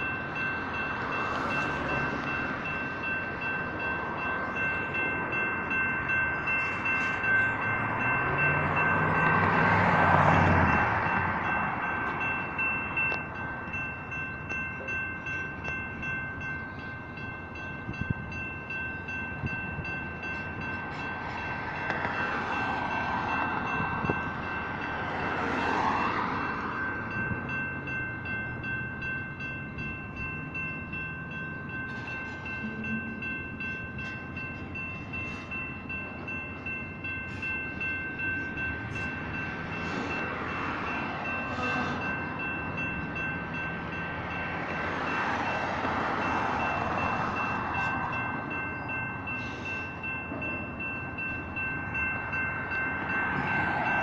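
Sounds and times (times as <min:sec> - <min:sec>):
crossing signal bells ringing: 0:00.0 - 0:54.0
freight train wheels rumbling: 0:00.0 - 0:54.0.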